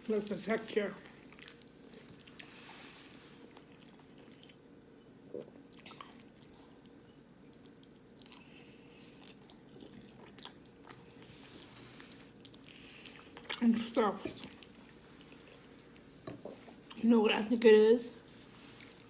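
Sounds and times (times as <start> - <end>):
chewing crunchy food: 1.0 - 17.0, 18.1 - 19.0.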